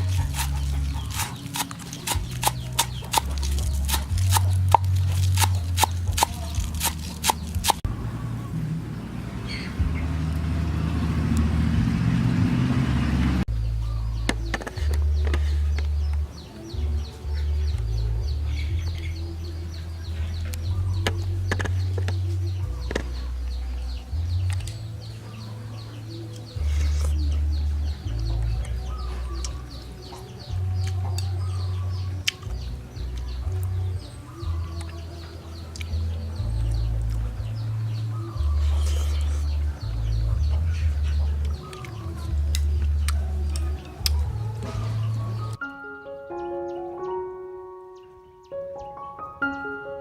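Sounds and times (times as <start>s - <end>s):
chickens cheeping: 0.0s - 12.0s, 12.7s - 45.6s
music with deep bass line: 0.0s - 45.6s.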